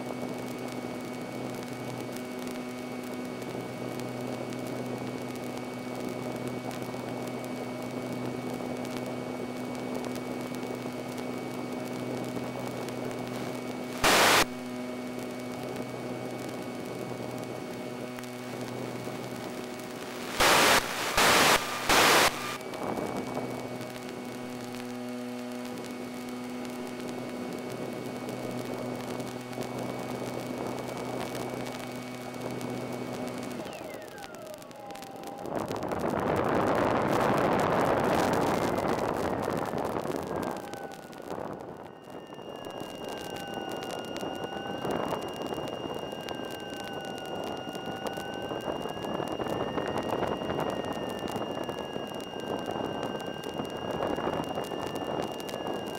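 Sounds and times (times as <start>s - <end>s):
electric motor and propeller hum: 0.0s - 55.9s
loud static bursts: 0.0s - 55.9s
radio static hiss: 0.0s - 55.9s.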